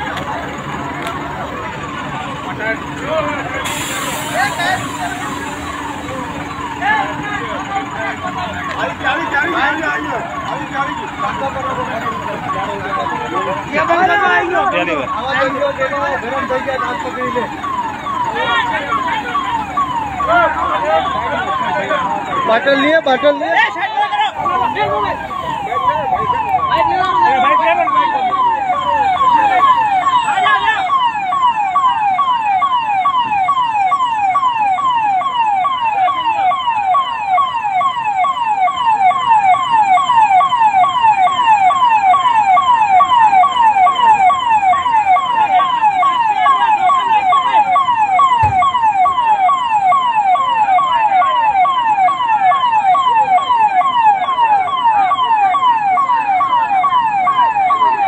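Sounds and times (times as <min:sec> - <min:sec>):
fire engine siren: 0:00.0 - 0:58.0
voices: 0:00.0 - 0:58.0.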